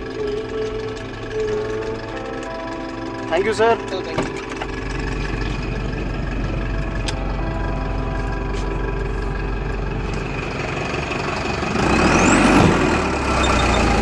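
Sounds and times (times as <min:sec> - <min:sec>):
rising whine: 0:00.0 - 0:14.0
truck engine from inside cab: 0:00.0 - 0:14.0.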